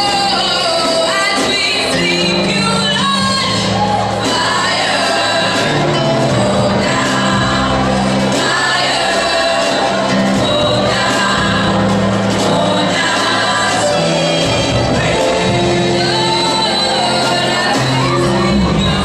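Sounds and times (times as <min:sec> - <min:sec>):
women singing gospel: 0:00.0 - 0:19.0.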